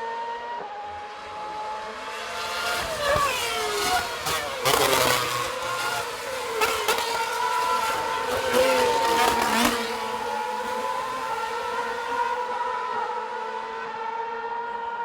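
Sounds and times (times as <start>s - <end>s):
cars passing: 0.0s - 15.0s
racing car engines at high revs: 0.0s - 15.0s.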